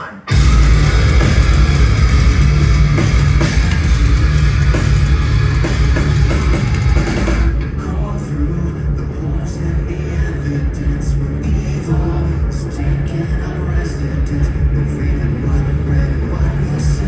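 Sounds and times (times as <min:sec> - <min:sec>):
distorted guitars: 0:00.0 - 0:17.0
metal band playing live: 0:00.3 - 0:17.0
pounding drums: 0:00.3 - 0:17.0.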